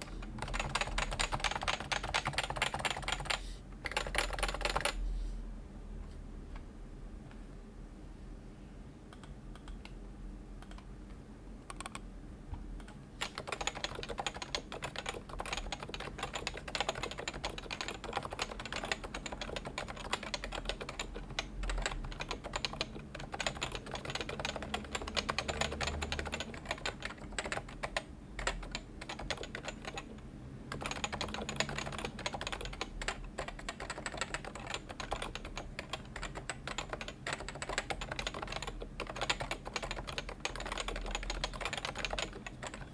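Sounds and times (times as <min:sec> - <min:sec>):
typing on keyboard: 0:00.2 - 0:05.0, 0:11.7 - 0:12.0, 0:12.8 - 0:42.9.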